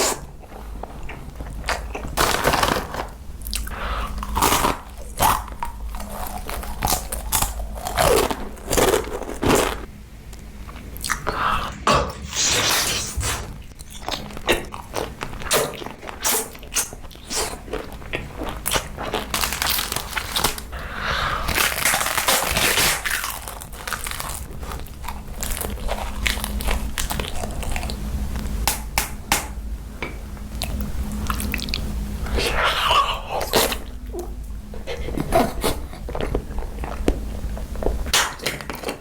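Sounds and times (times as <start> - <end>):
person chewing crunchy food: 0.0 - 29.2, 30.5 - 39.0.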